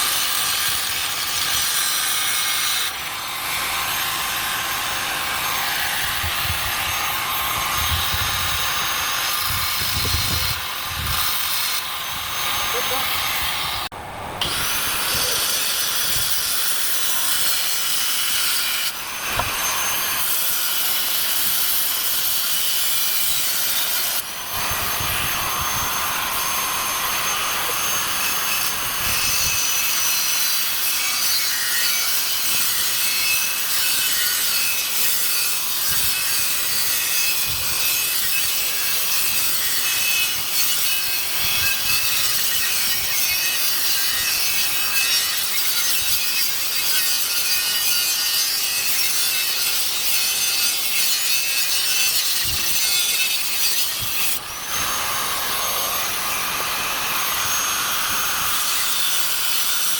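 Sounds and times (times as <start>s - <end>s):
angle grinder cutting steel: 0.0s - 59.9s.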